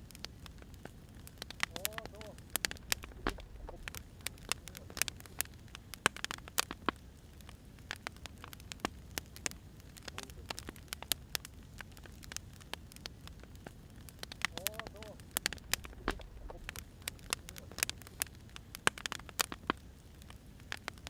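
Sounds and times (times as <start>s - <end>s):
low steady fire rumble: 0.0s - 21.0s
wood fire crackling and popping: 0.0s - 21.0s.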